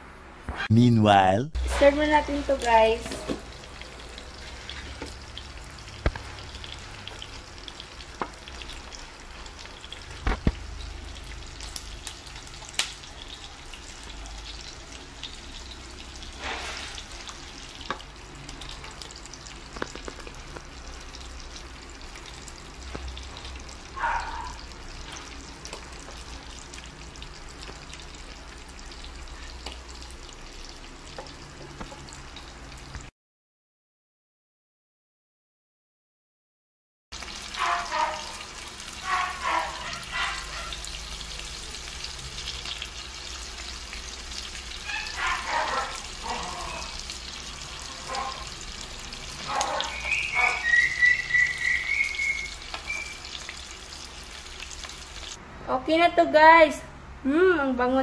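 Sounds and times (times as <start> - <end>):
fish frying in oil: 1.6 - 33.1, 37.2 - 55.4.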